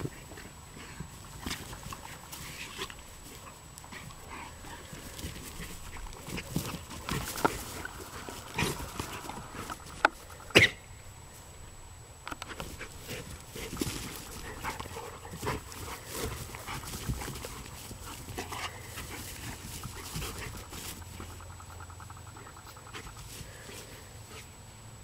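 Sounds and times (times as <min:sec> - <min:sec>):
dogs panting: 0:00.0 - 0:10.8, 0:12.4 - 0:24.6
dogs scuffling on grass: 0:00.0 - 0:11.6, 0:12.3 - 0:24.7.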